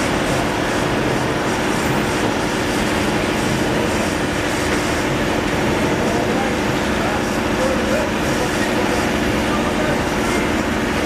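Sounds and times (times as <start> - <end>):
steady mechanical noise: 0.0 - 11.0.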